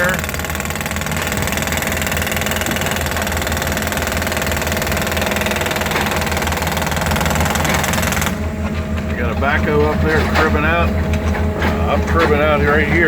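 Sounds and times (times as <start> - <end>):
heavy machinery engine idling: 0.0 - 13.0.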